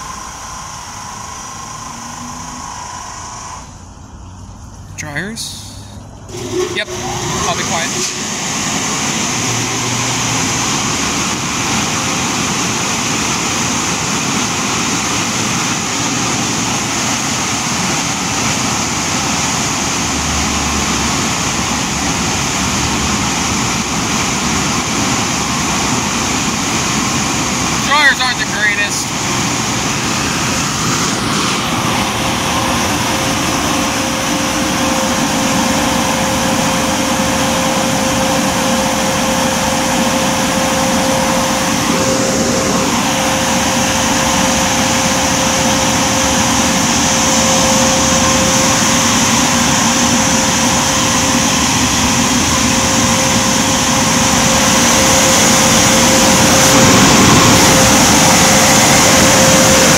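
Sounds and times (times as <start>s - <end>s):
blower dryers rushing air: 0.0s - 59.9s
constant hum: 0.0s - 59.9s.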